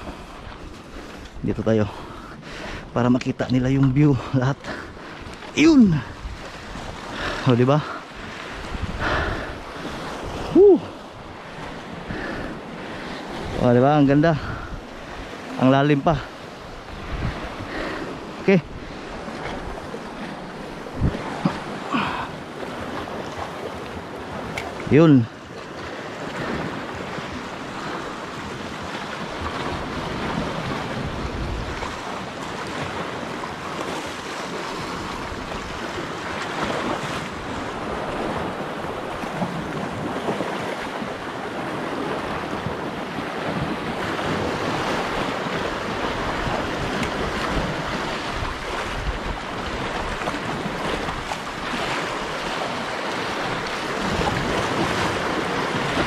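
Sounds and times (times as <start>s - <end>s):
wind on microphone: 0.0s - 1.9s, 4.9s - 7.4s, 8.1s - 24.9s, 25.8s - 56.0s
surf breaking over rocks: 2.8s - 56.0s.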